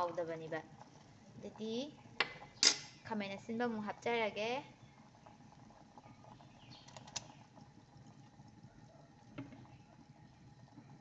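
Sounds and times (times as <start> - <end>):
pot of broth boiling: 0.0 - 11.0.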